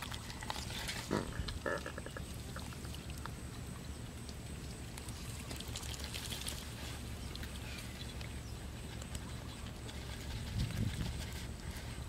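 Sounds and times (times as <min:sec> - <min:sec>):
fish squelching and splashing: 0:00.0 - 0:12.0.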